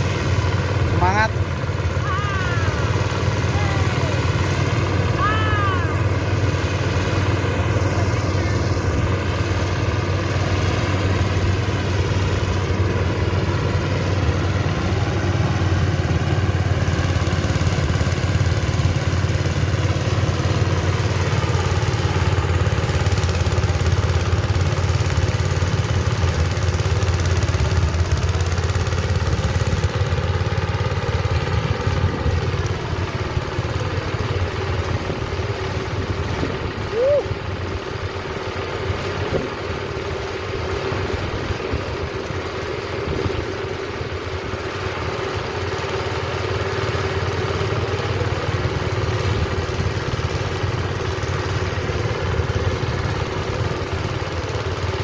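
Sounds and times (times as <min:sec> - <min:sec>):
harvester engine running: 0:00.0 - 0:55.0.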